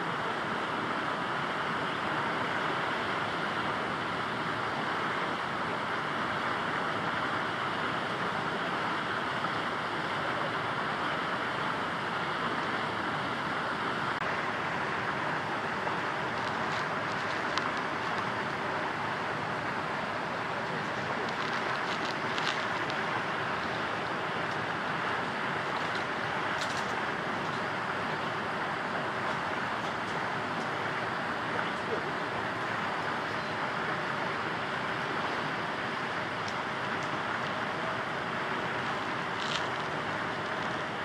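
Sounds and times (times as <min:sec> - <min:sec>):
faint high steady tone: 0:00.0 - 0:41.0
steady rushing hiss: 0:00.0 - 0:41.0.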